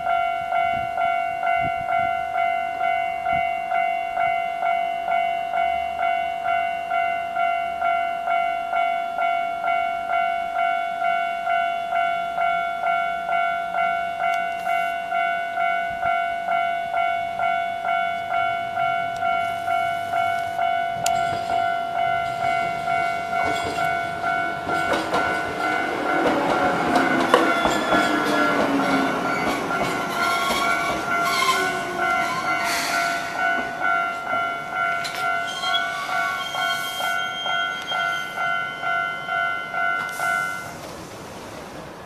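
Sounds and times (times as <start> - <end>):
level crossing warning bell ringing: 0.0 - 40.9
electric train approaching: 0.0 - 42.0.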